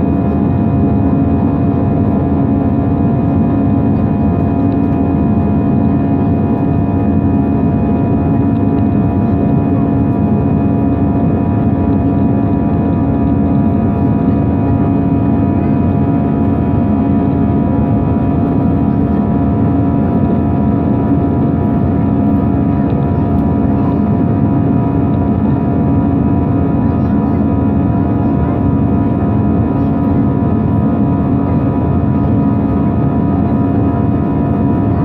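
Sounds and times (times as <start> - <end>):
jet engine cabin drone: 0.0 - 35.0.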